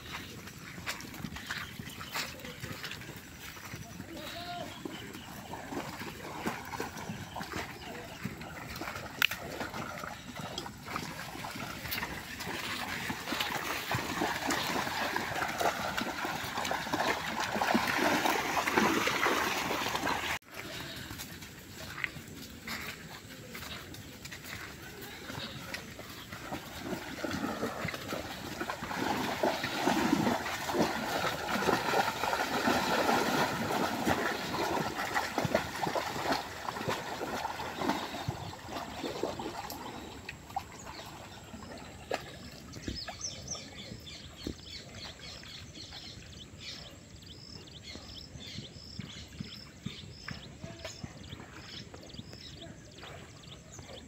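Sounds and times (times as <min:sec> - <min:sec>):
water pouring and trickling: 0:00.0 - 0:44.1.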